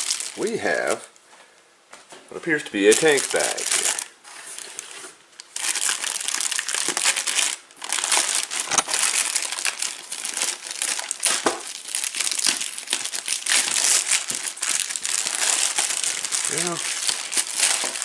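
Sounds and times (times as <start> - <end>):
plastic wrapping crinkling: 0.0 - 1.0, 2.8 - 18.0.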